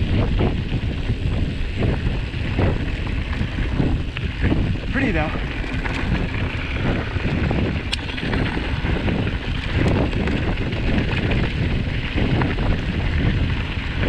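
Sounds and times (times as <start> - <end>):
mountain bike rolling on dirt trail: 0.0 - 14.0
sharp ticks from bike: 0.0 - 14.0
wind buffeting microphone: 0.0 - 14.0.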